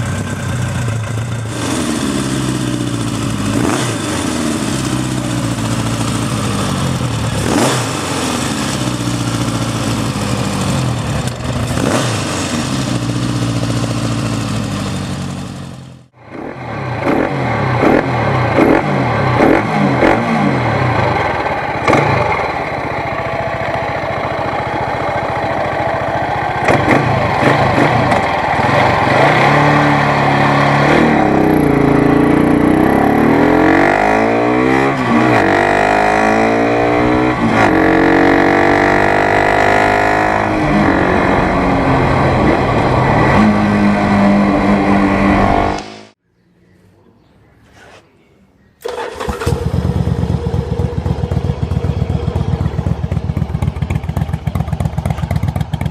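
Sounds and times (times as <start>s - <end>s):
motorcycle engine revving: 0.0s - 46.2s, 48.8s - 55.9s.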